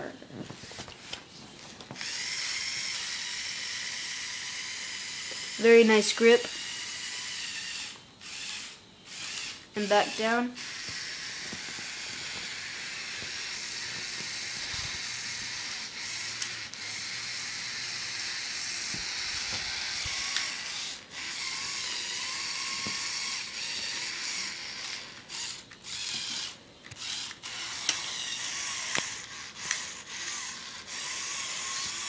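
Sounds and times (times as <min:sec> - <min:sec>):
electric motor whirring: 0:02.0 - 0:32.0.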